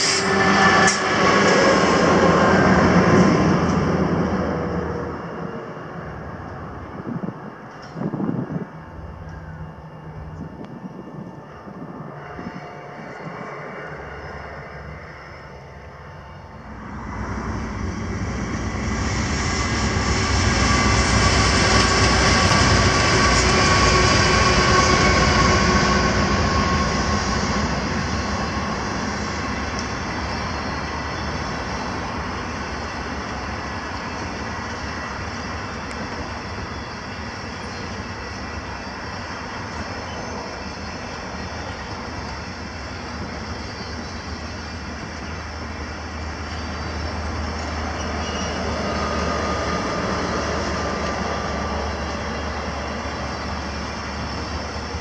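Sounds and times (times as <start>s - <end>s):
train wheels rolling over rails: 0.0s - 55.0s.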